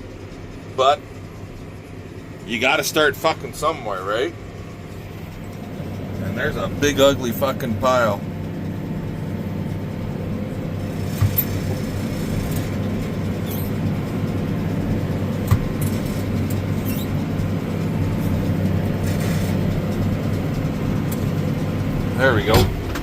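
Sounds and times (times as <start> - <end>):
baler machine hum: 0.0 - 23.0
tractor engine under load: 0.0 - 23.0.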